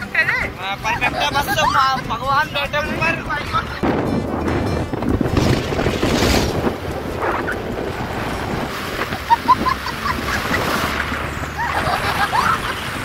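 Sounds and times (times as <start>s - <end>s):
motorcycle road noise: 0.0s - 13.0s
wind rushing over microphone: 0.5s - 13.0s.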